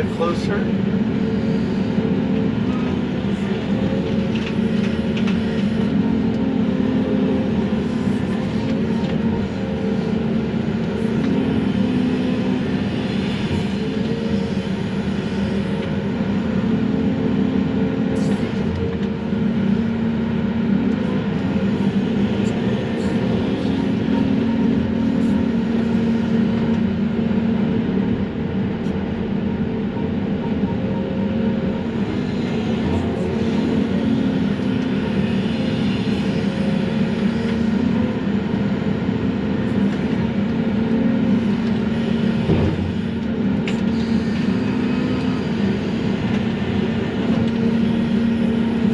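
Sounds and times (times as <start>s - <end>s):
excavator engine and hydraulics: 0.0s - 48.9s.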